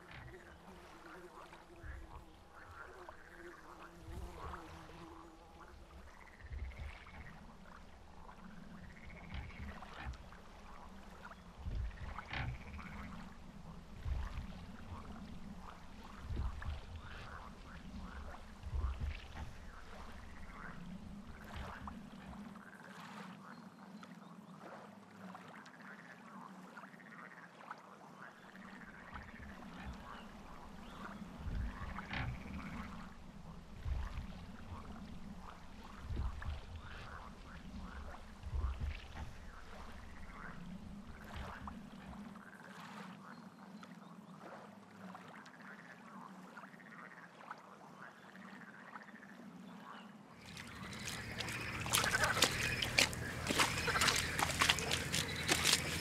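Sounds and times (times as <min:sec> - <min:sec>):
frogs croaking: 0:00.0 - 0:24.6, 0:25.2 - 0:56.0.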